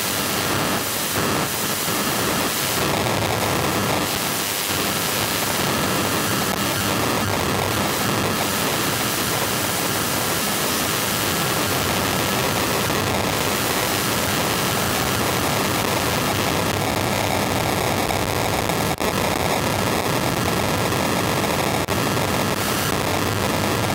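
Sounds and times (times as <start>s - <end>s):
static hiss: 0.0s - 23.9s.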